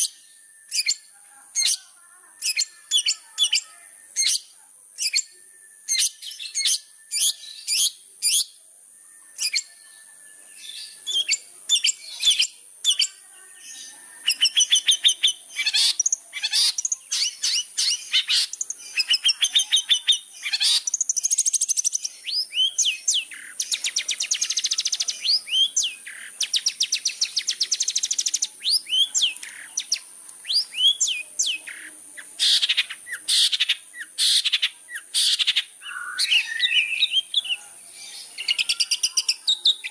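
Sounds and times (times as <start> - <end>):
shrike singing chattering song: 0.0 - 39.9.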